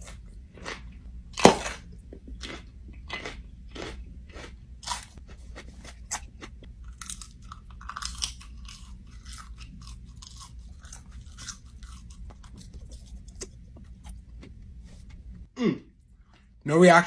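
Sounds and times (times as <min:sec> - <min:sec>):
person chewing crunchy food: 0:00.0 - 0:15.2.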